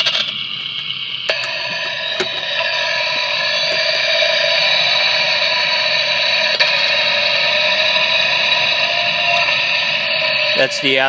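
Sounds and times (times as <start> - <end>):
distorted drivetrain whine: 0.0 - 11.0
hiss: 0.0 - 11.0.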